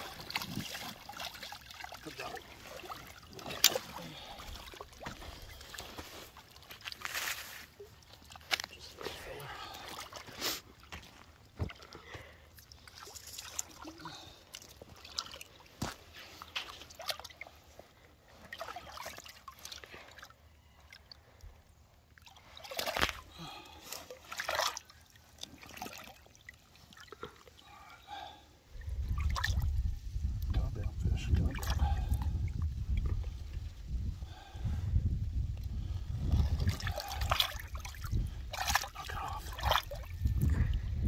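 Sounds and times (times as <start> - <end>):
water sloshing and trickling: 0.0 - 41.0.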